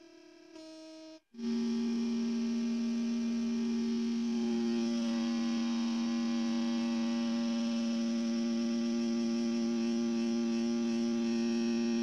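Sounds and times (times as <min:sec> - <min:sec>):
two steady pure tones: 0:00.6 - 0:12.0.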